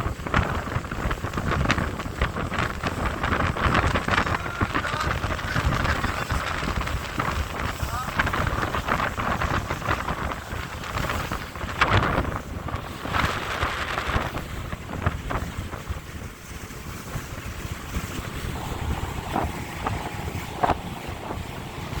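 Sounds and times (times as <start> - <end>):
waves: 0.0 - 22.0
wind buffeting microphone: 0.0 - 22.0.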